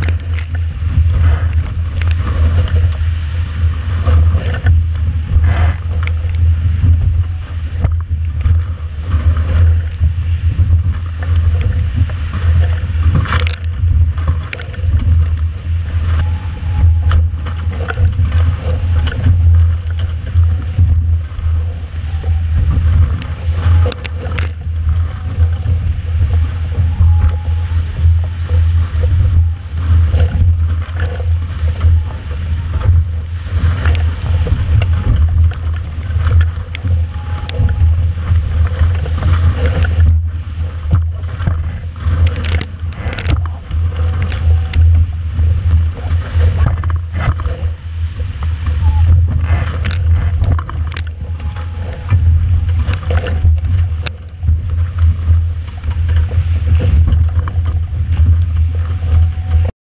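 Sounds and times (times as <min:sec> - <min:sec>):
hulls rushing through water: 0:00.0 - 0:57.2
wind buffeting microphone: 0:00.0 - 0:59.7.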